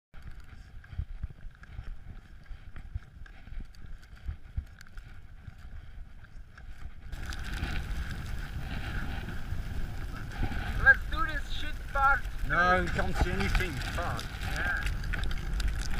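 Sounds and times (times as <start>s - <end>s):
wind buffeting microphone: 0.2s - 15.9s.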